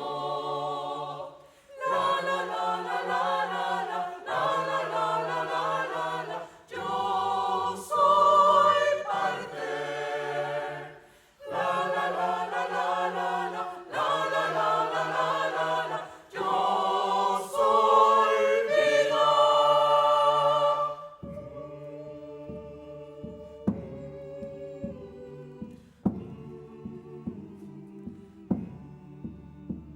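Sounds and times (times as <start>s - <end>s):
choir singing: 0.0s - 29.9s.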